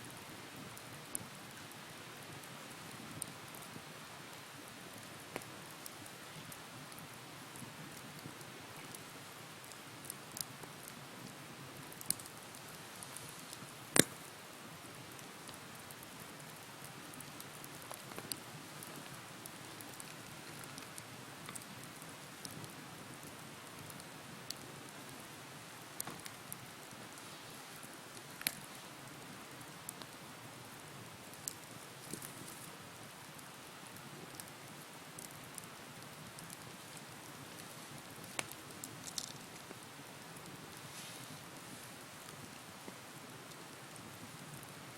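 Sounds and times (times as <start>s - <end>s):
bonfire crackling: 0.0s - 44.9s.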